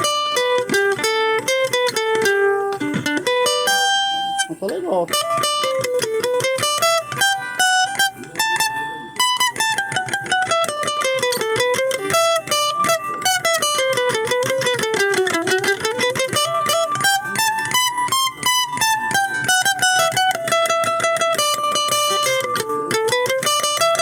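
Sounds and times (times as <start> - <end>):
amplified guitar picking notes: 0.0 - 24.0.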